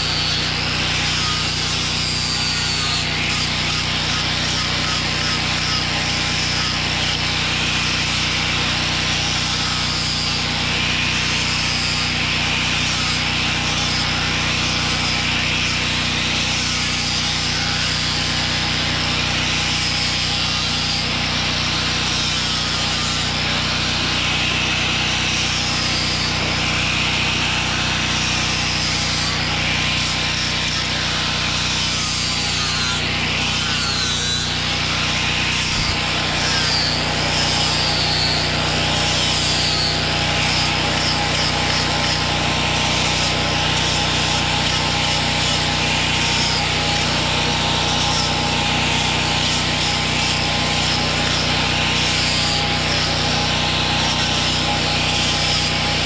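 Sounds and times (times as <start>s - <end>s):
angle grinder sanding wood: 0.0s - 56.0s.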